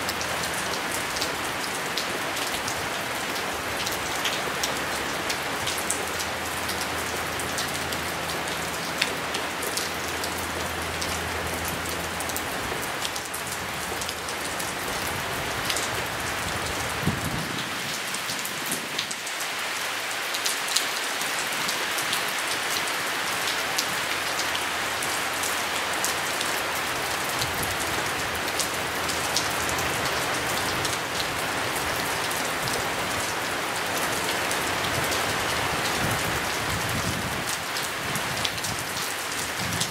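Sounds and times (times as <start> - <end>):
close raindrop ticks: 0.0 - 19.3, 20.4 - 39.9
steady rain falling: 0.0 - 39.9.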